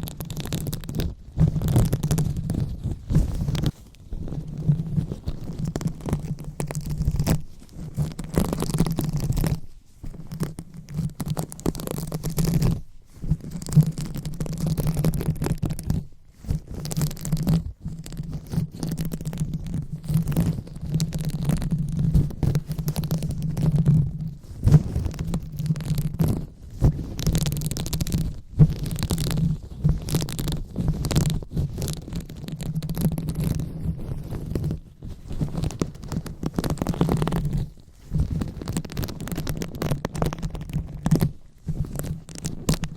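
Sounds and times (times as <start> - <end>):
fingers scratching on a microphone: 0.0 - 42.9.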